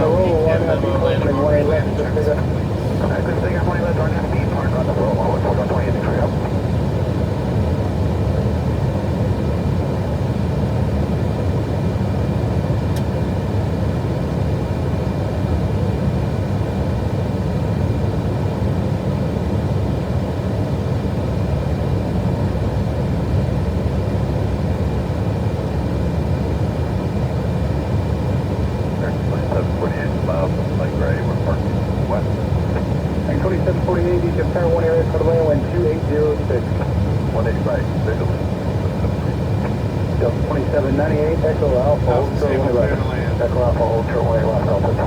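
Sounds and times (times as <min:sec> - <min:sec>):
cockpit airflow and engine noise: 0:00.0 - 0:45.0.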